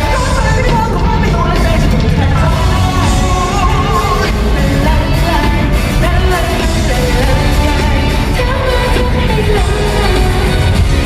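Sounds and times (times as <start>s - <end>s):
lead vocalist singing: 0.0s - 11.0s
live pop band playing: 0.0s - 11.0s.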